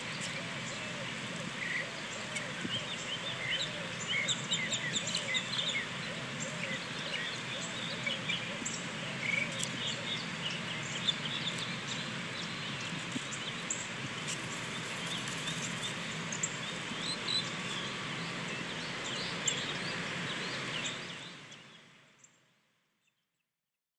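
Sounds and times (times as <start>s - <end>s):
birds chirping: 0.0s - 21.9s
steady background hiss: 0.0s - 22.8s.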